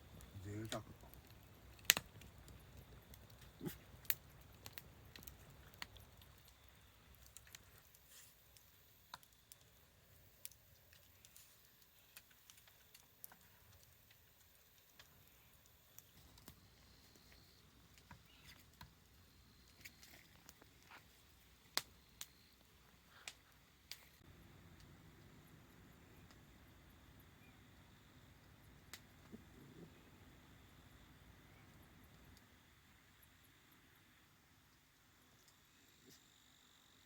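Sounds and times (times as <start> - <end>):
firewood crackling and popping: 0.0 - 33.9.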